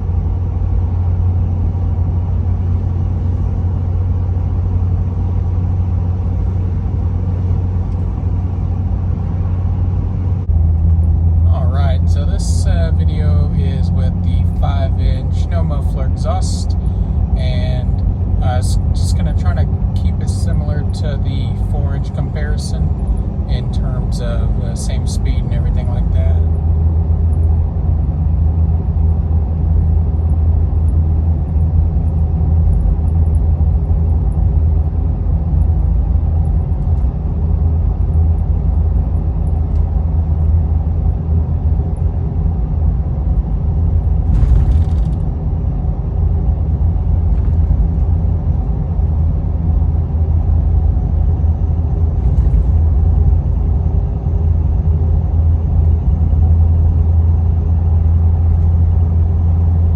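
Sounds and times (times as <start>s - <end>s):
truck cab engine drone: 0.0s - 59.9s.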